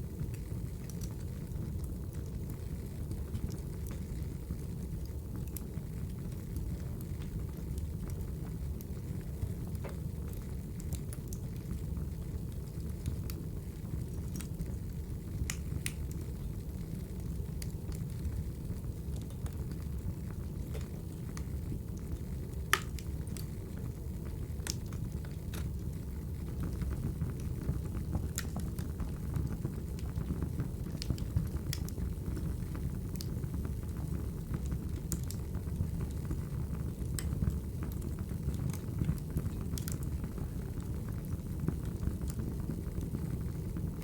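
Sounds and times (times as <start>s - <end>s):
fire rumbling: 0.0s - 44.0s
fire popping and snapping: 0.1s - 44.0s.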